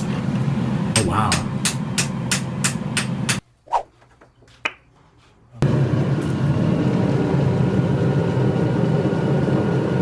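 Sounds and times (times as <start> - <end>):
workshop machinery droning: 0.0 - 3.4, 5.4 - 10.0.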